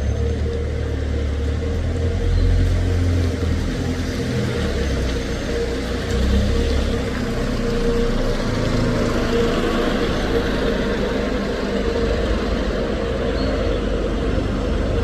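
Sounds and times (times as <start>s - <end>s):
bus engine drone: 0.0s - 15.0s
road noise: 0.0s - 15.0s
steady whine: 0.0s - 15.0s.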